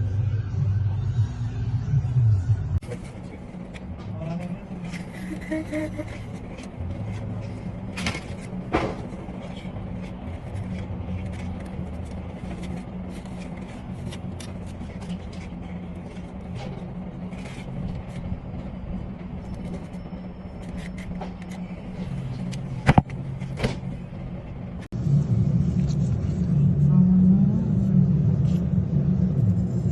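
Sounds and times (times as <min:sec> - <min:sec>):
low engine hum: 0:00.0 - 0:29.9.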